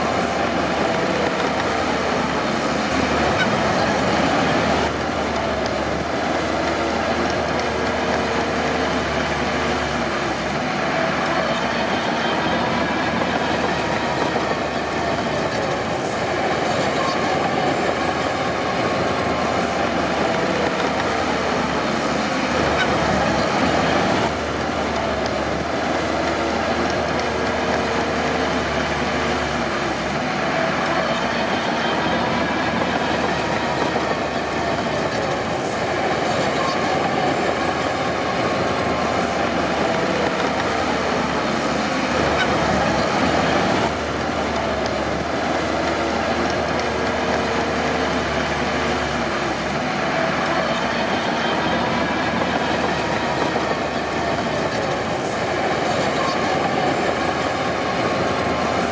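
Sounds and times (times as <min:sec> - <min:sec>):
diesel engine running: 0:00.0 - 0:58.9
steel tracks squealing and clanking: 0:00.0 - 0:58.9.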